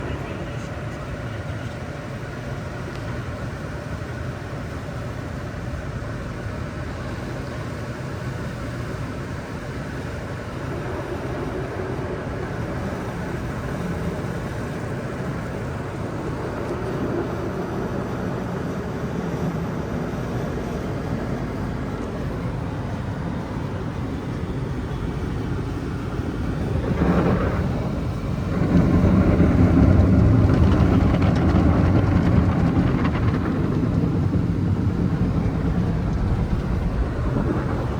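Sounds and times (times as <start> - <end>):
car wash rumbling: 0.0 - 37.9.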